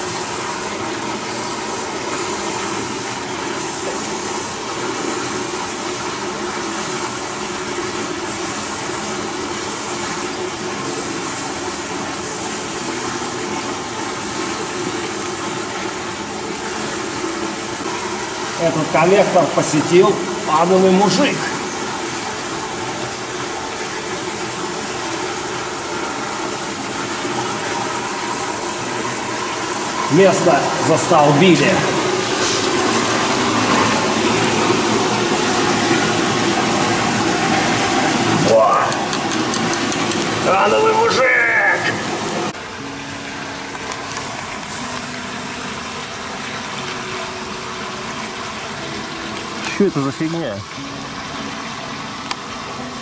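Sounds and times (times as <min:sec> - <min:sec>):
water rushing through culvert: 0:00.0 - 0:53.0.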